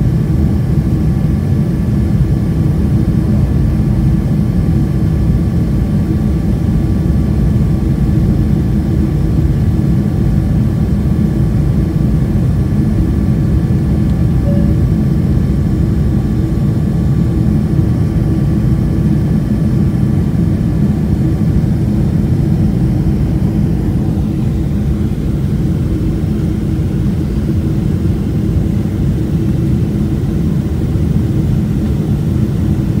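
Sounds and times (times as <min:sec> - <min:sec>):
airplane cabin engine rush: 0:00.0 - 0:33.0
faint steady whines: 0:00.0 - 0:33.0.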